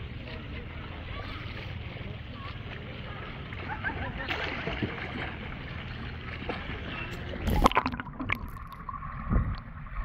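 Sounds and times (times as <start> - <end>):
pool water sloshing and splashing: 0.0 - 10.0.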